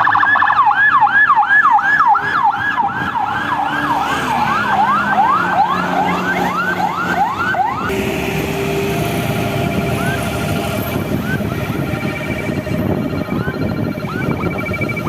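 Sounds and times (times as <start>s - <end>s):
road and engine noise: 0.0s - 15.0s
siren yelping: 0.0s - 15.0s.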